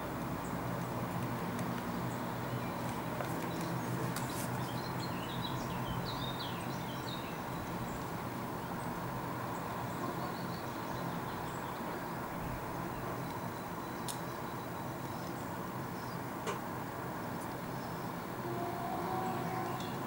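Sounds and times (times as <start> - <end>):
small birds chirping: 0.4 - 16.4, 17.4 - 20.0.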